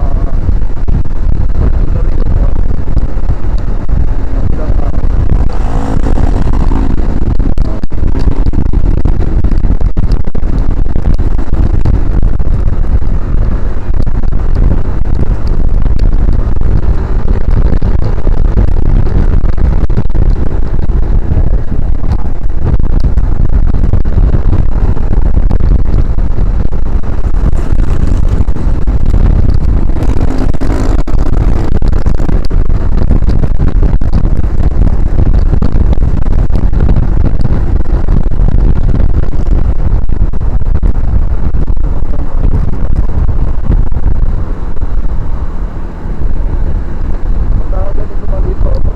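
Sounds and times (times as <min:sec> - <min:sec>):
motorcycle engine: 0:00.0 - 0:48.9
road noise: 0:00.0 - 0:48.9
wind buffeting microphone: 0:00.0 - 0:48.9.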